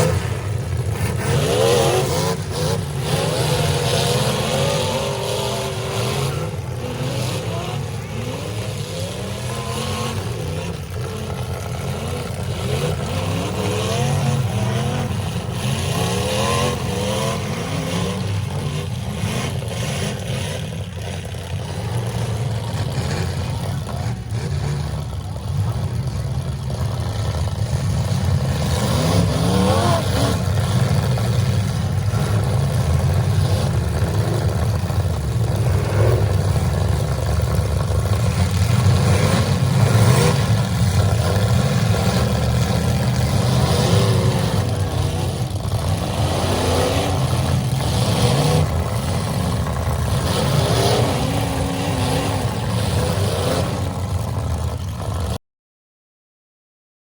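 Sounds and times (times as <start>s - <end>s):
cars banging: 0.0s - 55.3s
car engines revving loudly: 0.0s - 55.4s.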